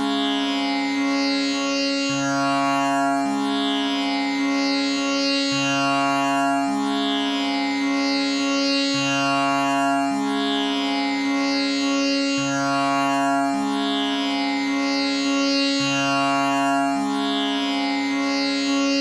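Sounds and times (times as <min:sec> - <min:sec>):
tanpura drone: 0:00.0 - 0:19.0.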